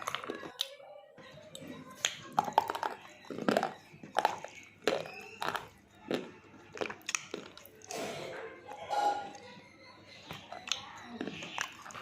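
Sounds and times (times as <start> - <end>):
chewing with crisp crunches: 0.0 - 12.0.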